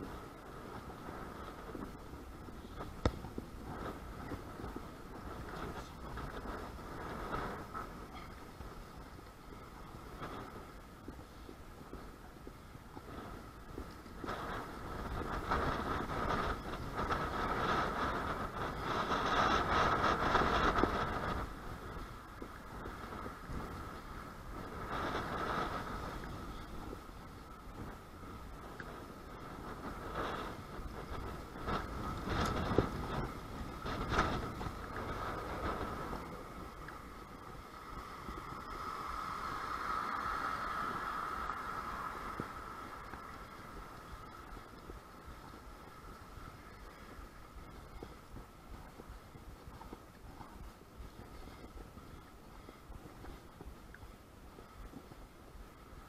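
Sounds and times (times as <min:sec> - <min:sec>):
strong gusty wind on microphone: 0:00.0 - 0:56.0.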